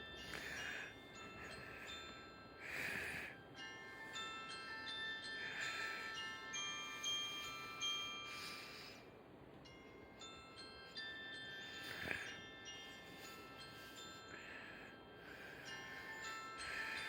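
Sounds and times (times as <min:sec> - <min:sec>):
bell-like mallet music: 0:00.0 - 0:17.0.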